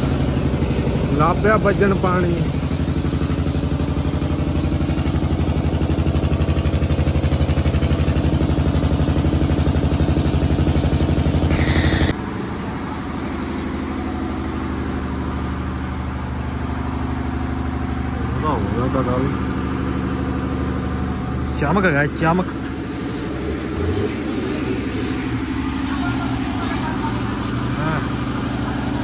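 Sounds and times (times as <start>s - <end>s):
pressure washer spraying water: 0.0s - 21.6s, 22.6s - 29.0s
engine idling: 0.0s - 29.0s.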